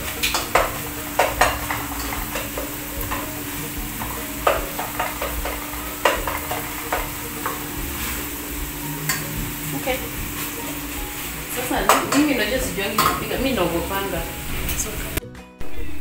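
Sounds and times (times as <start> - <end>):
meat sizzling in a pot: 0.0 - 15.2
spatula scraping and knocking pan: 0.0 - 15.2.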